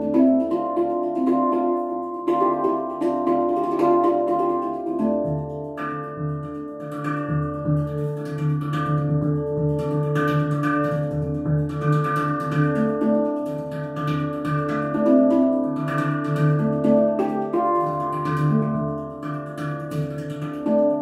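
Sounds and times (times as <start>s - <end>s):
handpan played with fingers: 0.0s - 21.0s.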